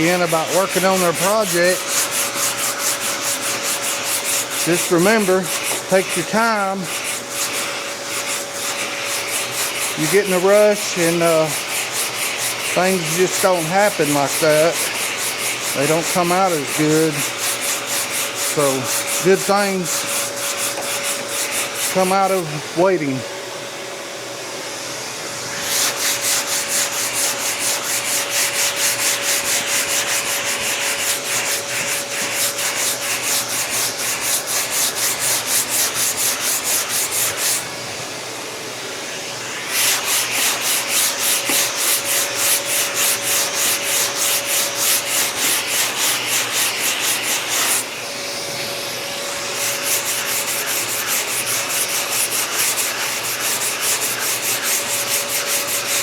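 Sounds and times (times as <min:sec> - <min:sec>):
sandpaper rasping strokes: 0:00.0 - 0:22.6, 0:25.6 - 0:37.7, 0:39.5 - 0:48.0, 0:49.3 - 0:56.0.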